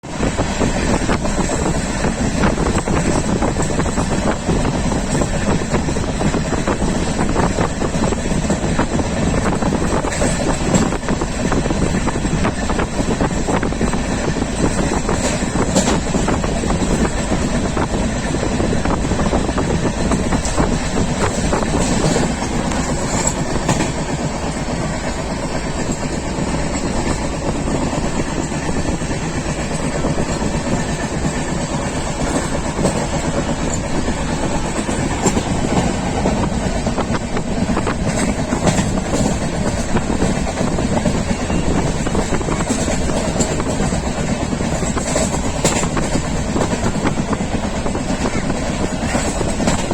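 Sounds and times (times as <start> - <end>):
train wheels rumbling on rails: 0.0 - 49.9
wheels clicking over rail joints: 0.0 - 49.9.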